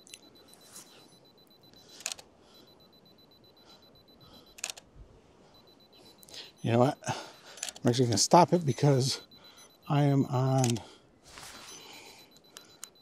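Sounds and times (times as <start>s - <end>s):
faint high beeping tone: 0.0s - 13.0s.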